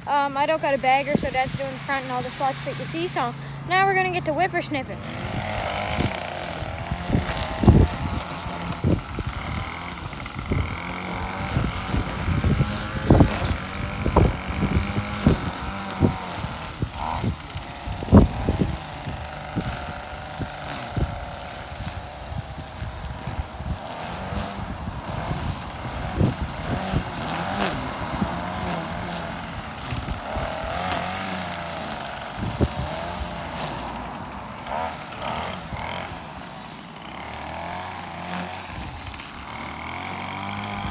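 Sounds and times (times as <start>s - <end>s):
string trimmer engine whine: 0.0s - 40.9s.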